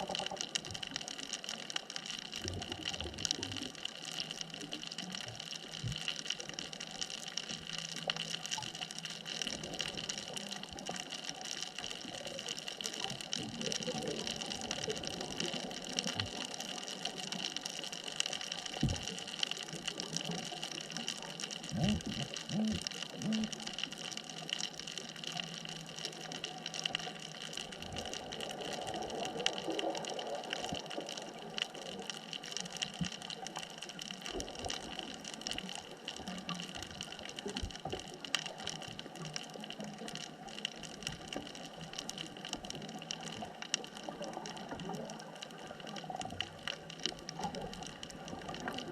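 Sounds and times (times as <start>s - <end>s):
bubbles gurgling: 0.0s - 48.9s
faint constant tones: 0.0s - 48.9s.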